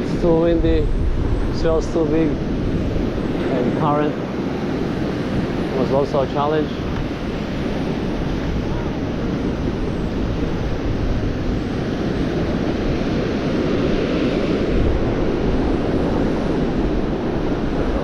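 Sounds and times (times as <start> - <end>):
beach surf: 0.0 - 18.0
wind buffeting microphone: 0.0 - 18.0.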